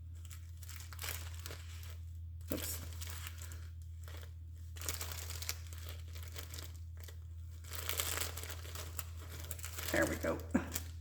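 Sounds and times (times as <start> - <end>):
papers rustling and crinkling: 0.0 - 11.0.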